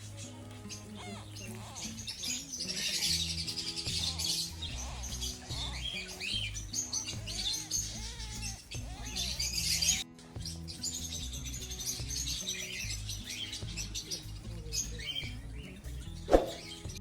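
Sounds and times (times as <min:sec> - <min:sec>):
background music low notes: 0:00.0 - 0:17.0
high chirping tweeting: 0:00.0 - 0:17.0.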